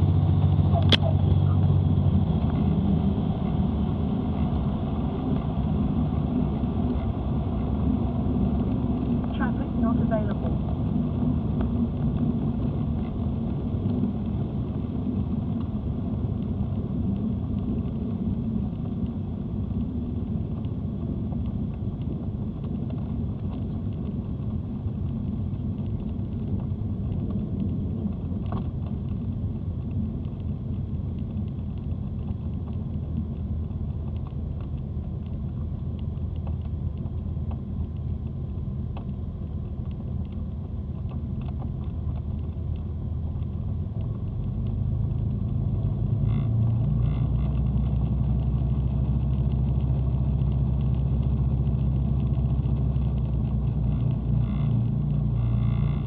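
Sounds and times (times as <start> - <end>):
propeller plane engines droning: 0.0 - 46.4.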